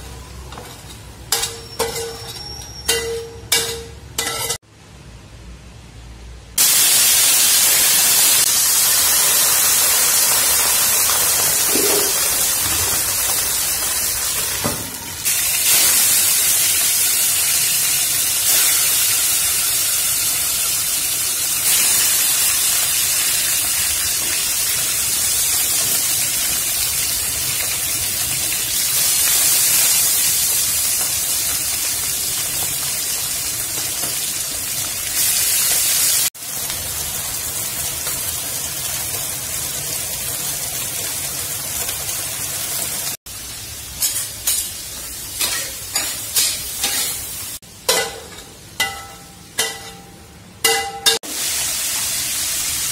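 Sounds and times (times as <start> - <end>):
food frying in hot oil: 6.6 - 50.0, 50.6 - 52.9.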